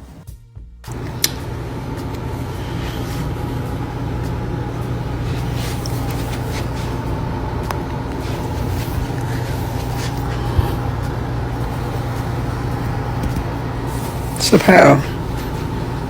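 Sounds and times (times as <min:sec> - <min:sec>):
low engine rumble: 0:00.9 - 0:16.0.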